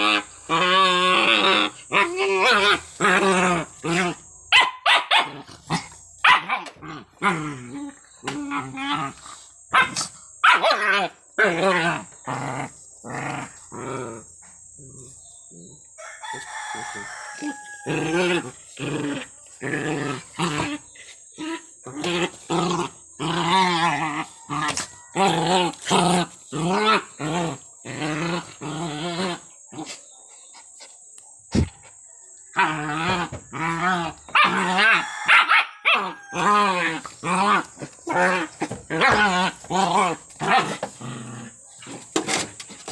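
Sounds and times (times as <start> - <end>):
dogs barking and growling: 0.0 - 42.9.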